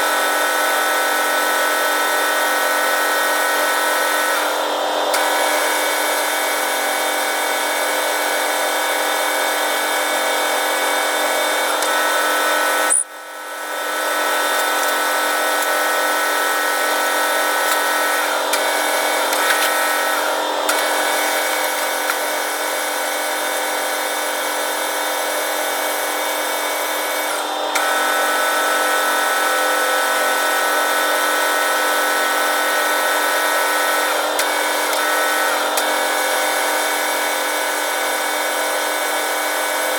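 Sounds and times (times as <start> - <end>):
lathe motor whine: 0.0 - 39.9.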